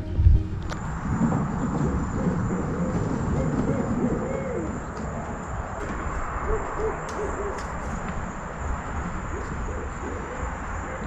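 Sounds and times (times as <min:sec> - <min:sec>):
owls hooting: 0:00.0 - 0:11.0.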